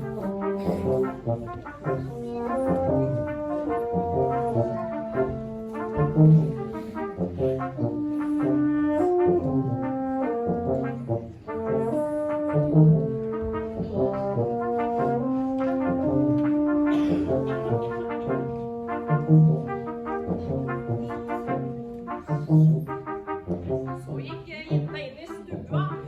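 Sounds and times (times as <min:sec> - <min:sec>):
brass quartet playing: 0:00.0 - 0:26.0.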